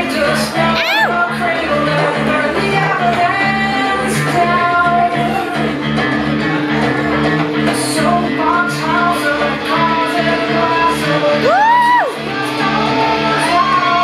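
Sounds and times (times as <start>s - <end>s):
loud dance music: 0.1s - 14.0s.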